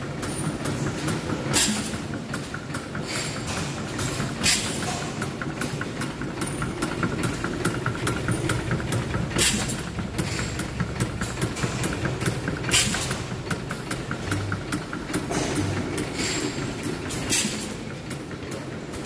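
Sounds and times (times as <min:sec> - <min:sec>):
quick steady engine clicking: 0:00.0 - 0:19.0
stationary gas engine running: 0:00.0 - 0:19.0
engine bursts: 0:00.1 - 0:19.0.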